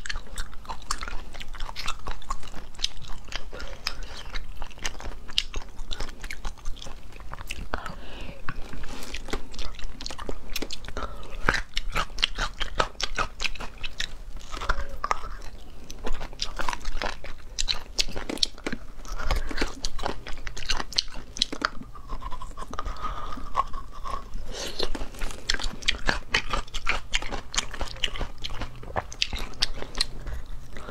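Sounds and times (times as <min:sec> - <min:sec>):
wet chewing and sucking: 0:00.0 - 0:30.9.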